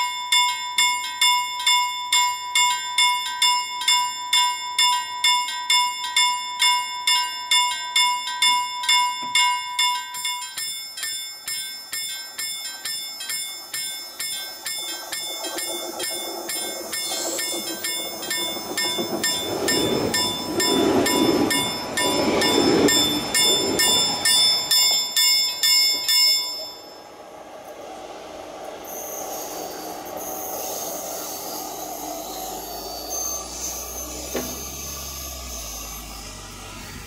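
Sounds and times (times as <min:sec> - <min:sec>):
level crossing warning bell: 0:00.0 - 0:27.8, 0:28.6 - 0:37.0
train passing: 0:07.1 - 0:37.0.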